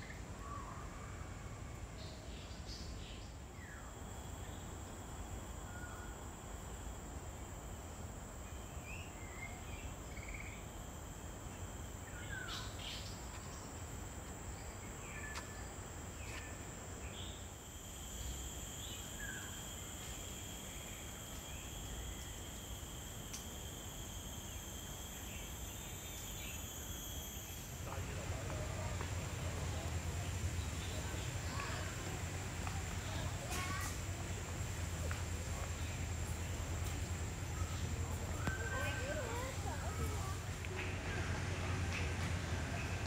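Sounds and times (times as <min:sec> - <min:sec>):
lower insect tone: 0:00.0 - 0:43.0
high-pitched insect drone: 0:03.6 - 0:41.9.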